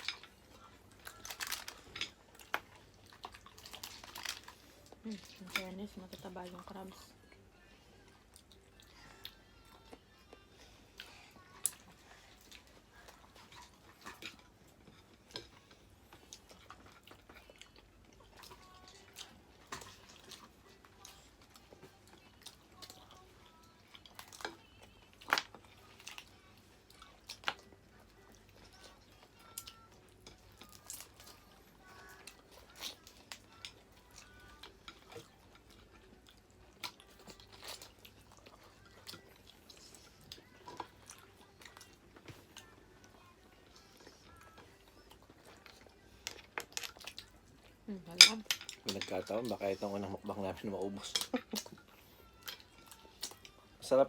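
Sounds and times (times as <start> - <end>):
chewing: 0.0 - 53.8.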